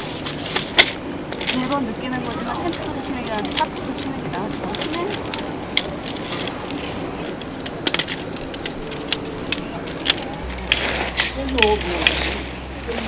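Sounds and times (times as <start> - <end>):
camping gear clicking and knocking: 0.0 - 13.0
low hum: 0.0 - 13.0
steady background noise: 0.0 - 13.0.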